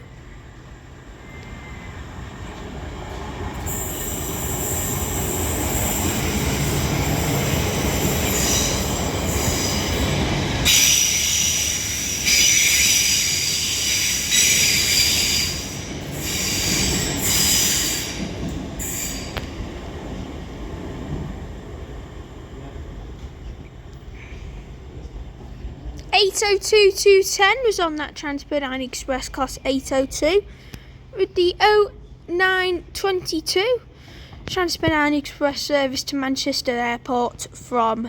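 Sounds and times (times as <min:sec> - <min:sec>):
train passing: 0:00.0 - 0:37.5.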